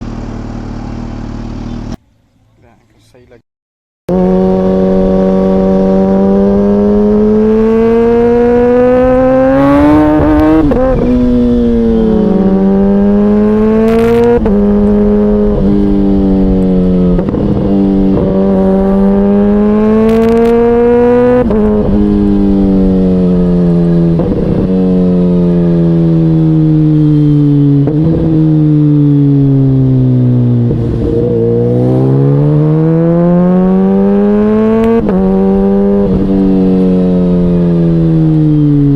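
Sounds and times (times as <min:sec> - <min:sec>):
motorcycle engine revving: 0:00.0 - 0:02.0, 0:04.1 - 0:38.9.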